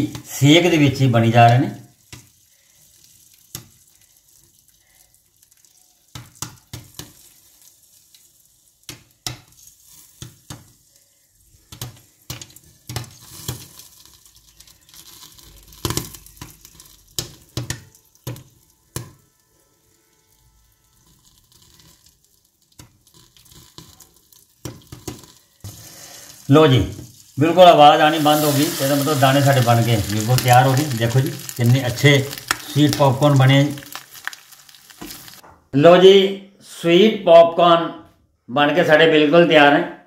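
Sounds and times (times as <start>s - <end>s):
faint sizzle: 0.0s - 35.4s
popcorn kernels popping: 1.4s - 10.9s, 11.6s - 35.4s.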